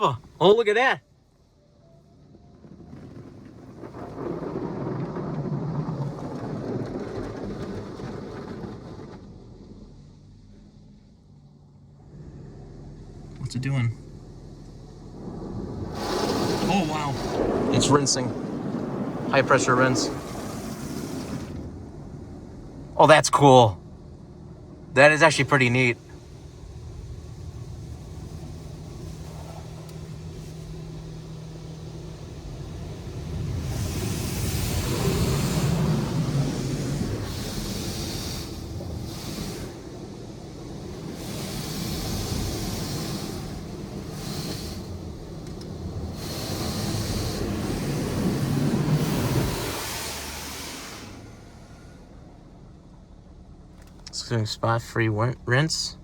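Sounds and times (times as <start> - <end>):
water spraying on car: 0.0 - 56.0
low machine hum: 9.5 - 56.0.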